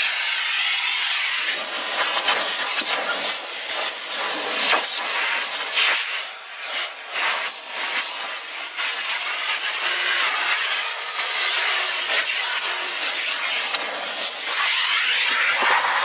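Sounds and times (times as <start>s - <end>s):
nozzle sucking over carpet mat: 0.0s - 16.0s
vacuum cleaner running: 0.0s - 16.0s.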